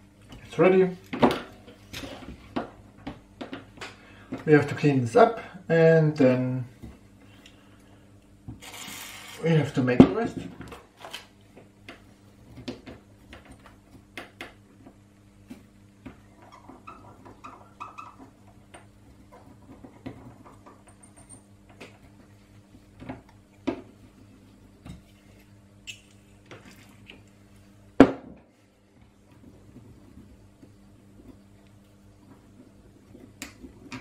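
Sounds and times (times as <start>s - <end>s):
faint steady low hum: 0.0s - 34.0s.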